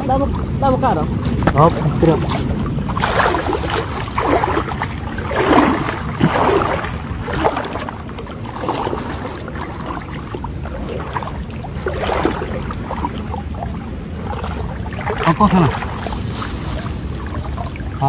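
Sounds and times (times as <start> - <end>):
floodwater sloshing around legs: 0.3 - 18.0.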